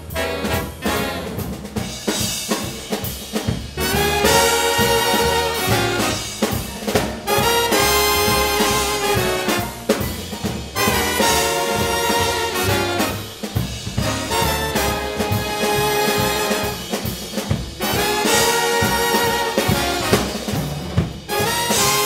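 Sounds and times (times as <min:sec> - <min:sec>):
brass section chords: 0:00.0 - 0:01.9, 0:03.8 - 0:22.0
drum kit: 0:00.0 - 0:22.0.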